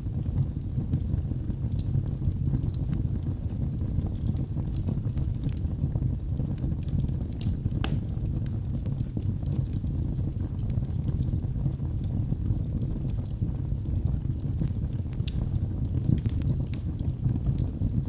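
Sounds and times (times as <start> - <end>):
wood fire burning: 0.0 - 18.0
crackles and pops from logs: 0.2 - 18.0.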